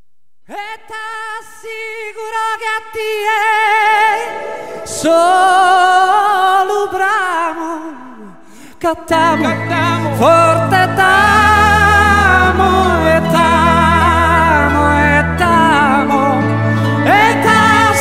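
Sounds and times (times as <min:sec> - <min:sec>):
person singing with vibrato: 0:00.5 - 0:18.0.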